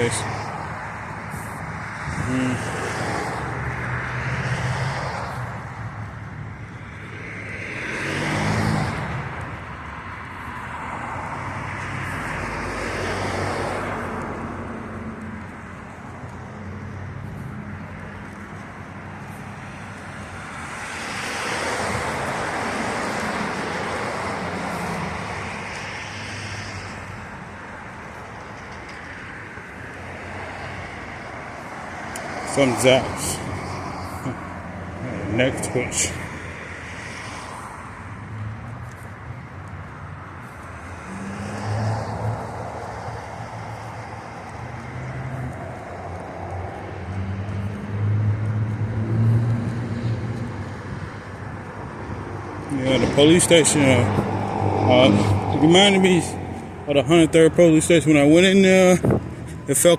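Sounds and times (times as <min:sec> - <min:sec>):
cars passing: 0:00.0 - 0:59.9
road hum: 0:00.0 - 0:59.9.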